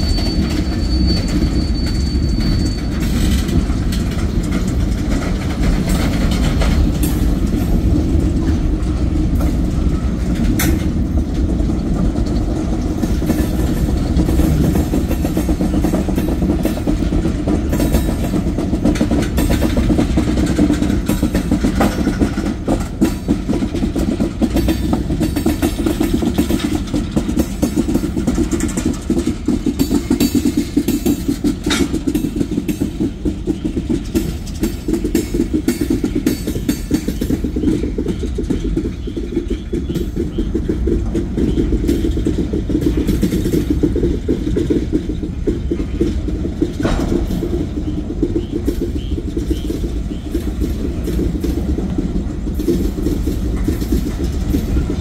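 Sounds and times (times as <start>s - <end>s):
rail clicking: 0.0s - 55.0s
train wheels rumbling on rails: 0.0s - 55.0s.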